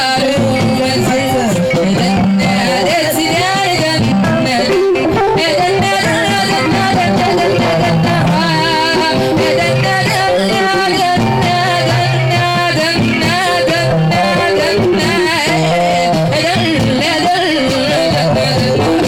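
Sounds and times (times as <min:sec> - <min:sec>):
instrumental accompaniment: 0:00.0 - 0:19.0
ornamented singing voice: 0:00.0 - 0:19.0.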